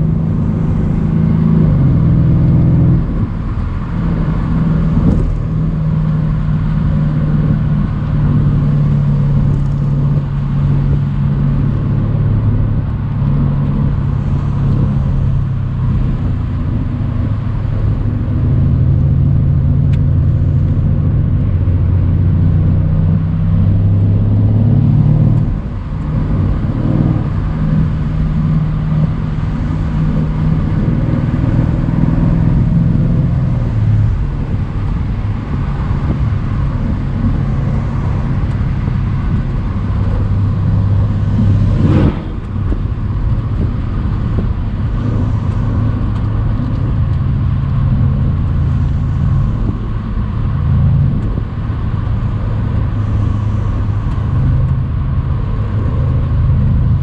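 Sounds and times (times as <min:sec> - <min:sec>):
deep car engine note: 0:00.0 - 0:57.0.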